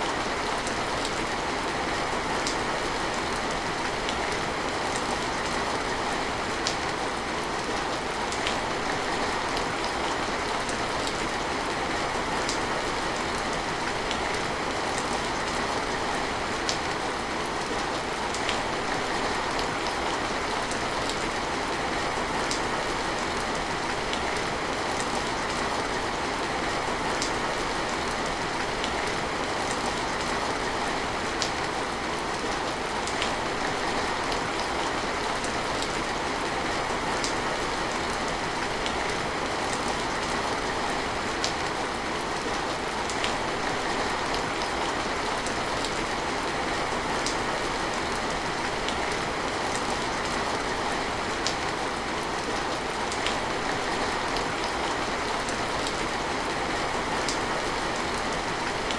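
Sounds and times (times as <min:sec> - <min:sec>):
rain falling: 0:00.0 - 0:58.9
raindrops ticking on surfaces: 0:00.0 - 0:58.9.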